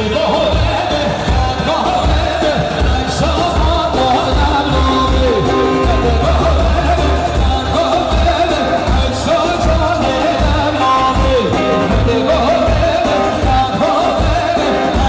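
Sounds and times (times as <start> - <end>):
band music with pulsing beat: 0.0 - 15.0
person singing: 0.0 - 15.0.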